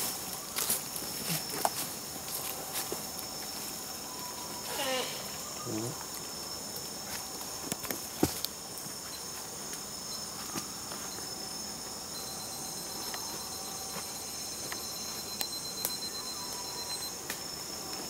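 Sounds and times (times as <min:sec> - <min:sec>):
rainforest insects droning: 0:00.0 - 0:18.0.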